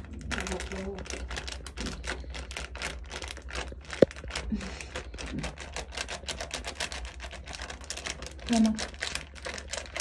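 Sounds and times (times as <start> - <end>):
plastic packet crinkling: 0.0 - 10.0
powder pouring into bowl: 0.0 - 10.0.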